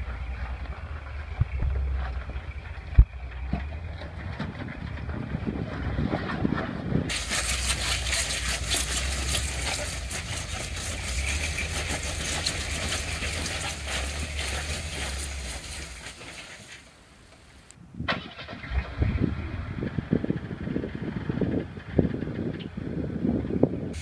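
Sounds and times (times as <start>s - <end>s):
jeep engine running low: 0.0s - 17.7s, 18.4s - 24.0s.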